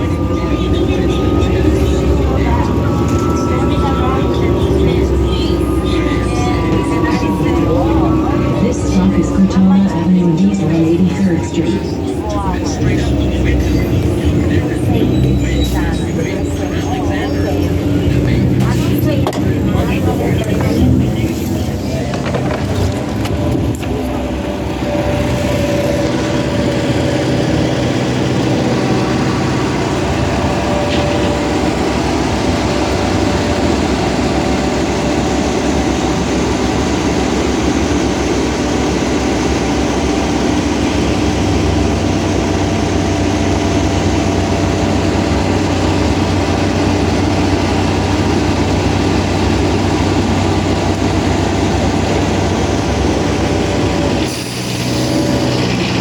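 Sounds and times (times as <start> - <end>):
bus engine drone: 0.0 - 56.0
deep hum: 0.0 - 56.0
whining tones: 0.0 - 56.0.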